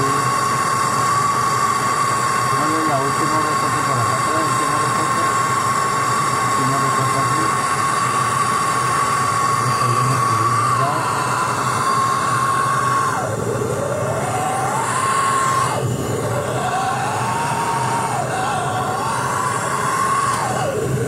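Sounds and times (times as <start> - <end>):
gas torch hissing and whistling: 0.0 - 21.0.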